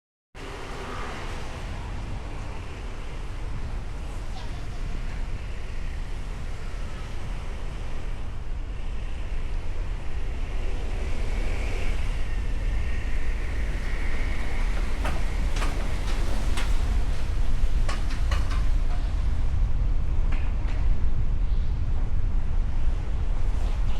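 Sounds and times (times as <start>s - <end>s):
road traffic rumble: 0.4s - 23.9s.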